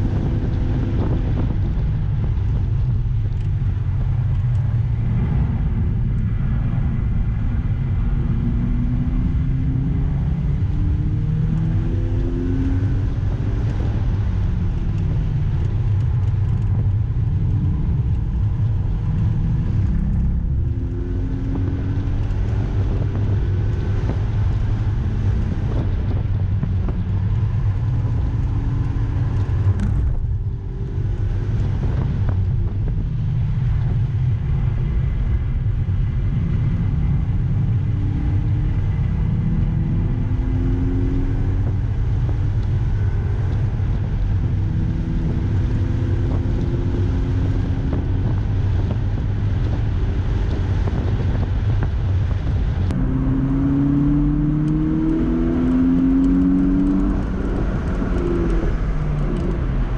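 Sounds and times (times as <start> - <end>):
road and wind rumble: 0.0 - 59.9
car engine revving: 3.4 - 59.9.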